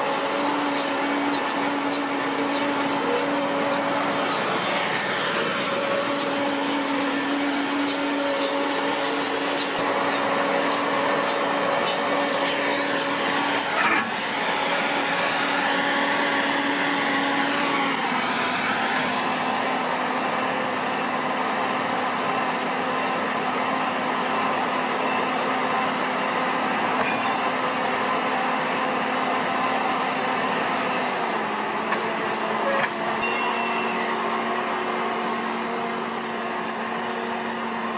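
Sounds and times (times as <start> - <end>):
machinery whining and humming: 0.0 - 37.9.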